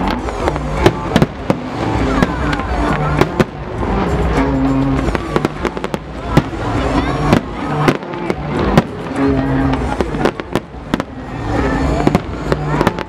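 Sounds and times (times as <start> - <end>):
fireworks bangs and crackling: 0.0 - 13.0
low pitched tones: 0.0 - 13.0.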